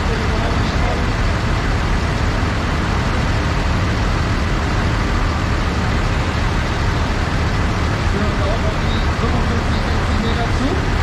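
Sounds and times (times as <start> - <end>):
tractor diesel engines rumbling: 0.0 - 11.0.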